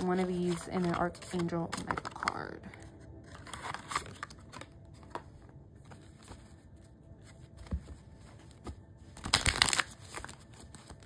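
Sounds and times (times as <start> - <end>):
cards tapping and rustling: 0.0 - 6.6, 7.2 - 11.0.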